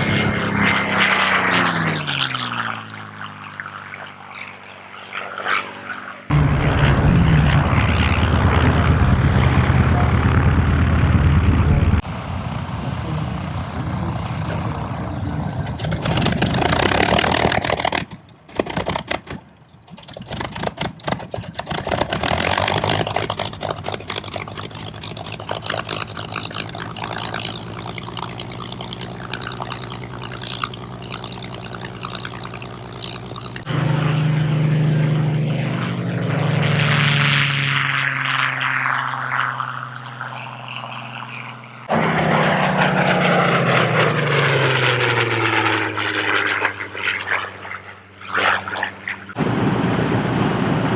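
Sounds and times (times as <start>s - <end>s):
propeller aircraft engines running: 0.0s - 50.9s.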